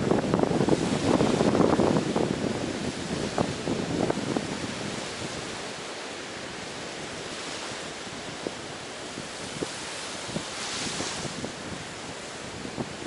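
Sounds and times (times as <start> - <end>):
sea surf on a beach: 0.0 - 13.0
wind: 0.0 - 13.0.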